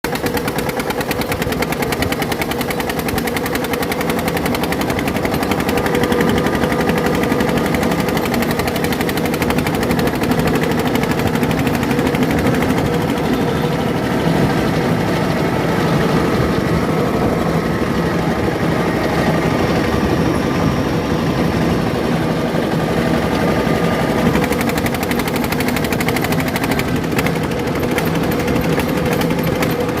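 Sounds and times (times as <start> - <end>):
engine running with loud exhaust: 0.0 - 30.0.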